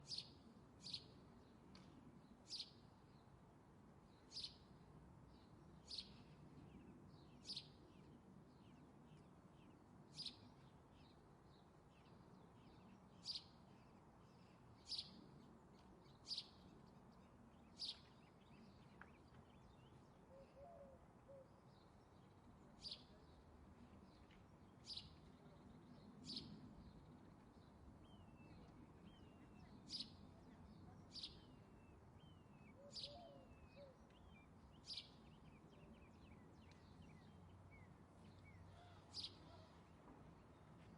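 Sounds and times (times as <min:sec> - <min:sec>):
songbird chirping: 0:05.4 - 0:40.9.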